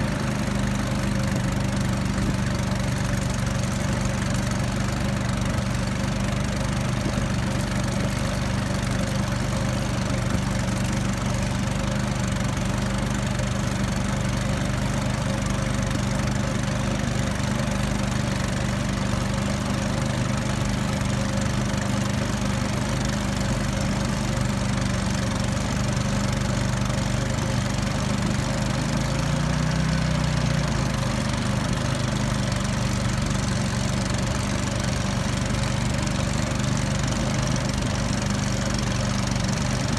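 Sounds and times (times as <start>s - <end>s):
small boat motor running: 0.0s - 39.9s.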